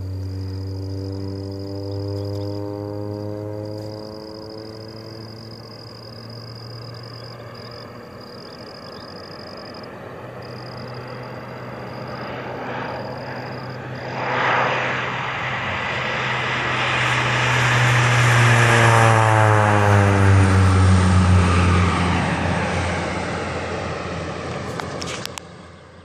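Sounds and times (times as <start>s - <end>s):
propeller plane passing: 0.0s - 26.0s.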